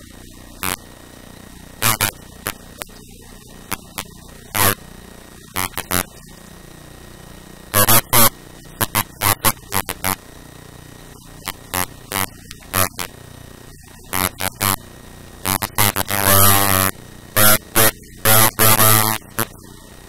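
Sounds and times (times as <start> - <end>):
buzzy static crackle: 0.0 - 20.0.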